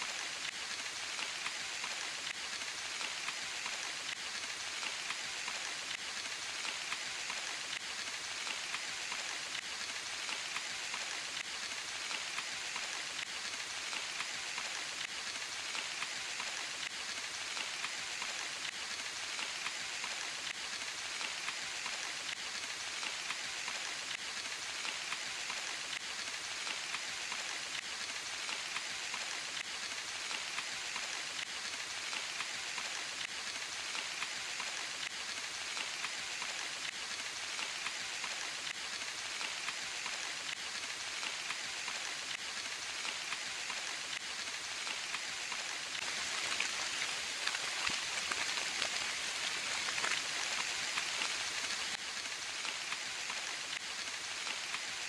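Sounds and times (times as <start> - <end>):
rain pattering on leaves: 0.0 - 55.0.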